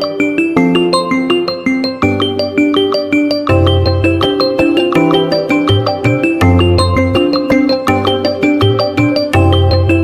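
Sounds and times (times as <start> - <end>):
mobile phone ringtone melody: 0.0 - 10.0.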